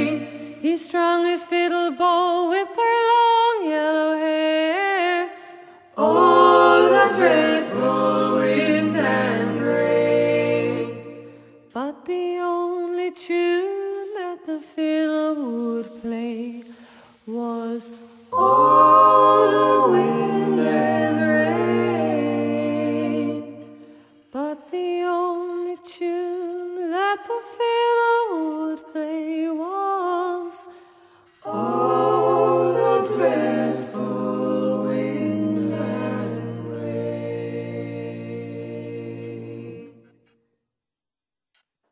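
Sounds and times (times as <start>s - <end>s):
unaccompanied folk singing: 0.0s - 30.6s, 31.2s - 40.4s.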